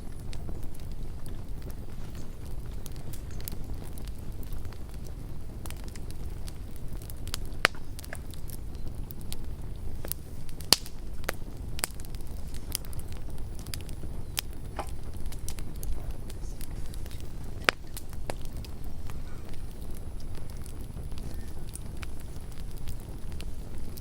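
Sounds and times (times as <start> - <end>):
burning wood crackling and popping: 0.0 - 24.0
campfire low rumble: 0.0 - 24.0.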